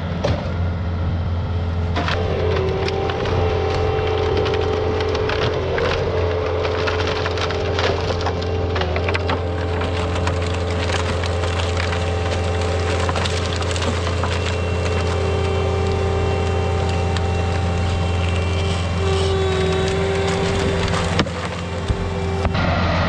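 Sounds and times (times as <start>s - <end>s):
diesel engine running: 0.0s - 23.0s
wood cracking and splintering: 1.9s - 22.6s.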